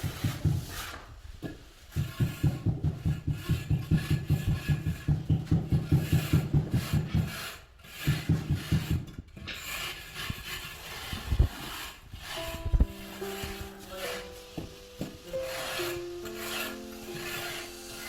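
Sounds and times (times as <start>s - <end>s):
rapid rubbing on hard surface: 0.0s - 18.0s
steady scraping: 0.1s - 18.0s.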